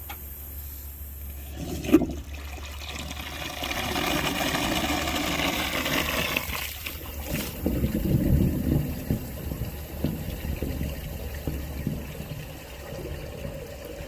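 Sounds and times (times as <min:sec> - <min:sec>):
steady low hum: 0:00.0 - 0:14.0
water rushing: 0:01.4 - 0:14.0.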